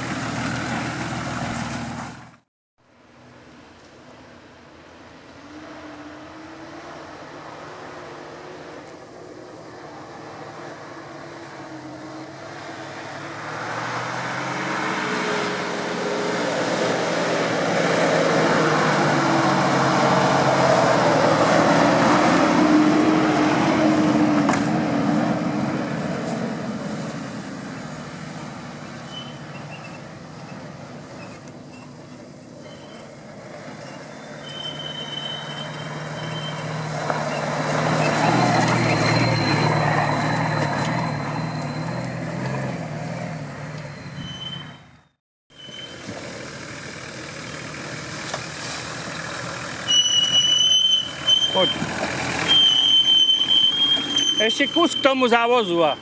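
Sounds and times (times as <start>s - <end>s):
off-road vehicle engine under load: 0.0s - 56.0s.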